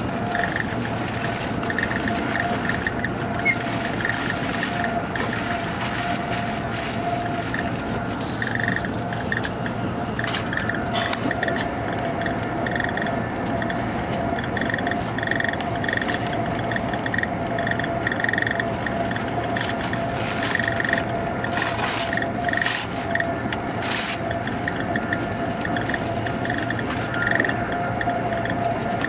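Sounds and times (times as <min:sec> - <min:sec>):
constant whine: 0:00.0 - 0:29.0
train rumble and hiss: 0:00.0 - 0:29.0.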